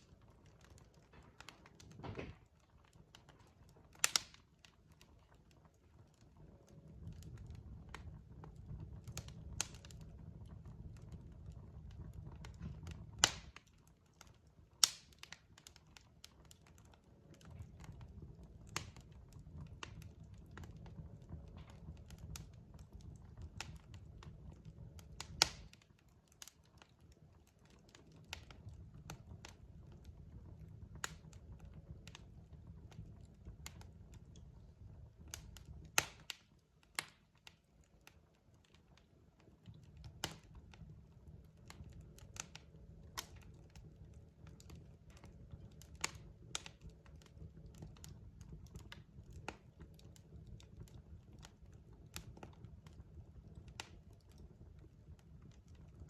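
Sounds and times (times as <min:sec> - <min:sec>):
logs crackling and popping: 0:00.0 - 0:56.0.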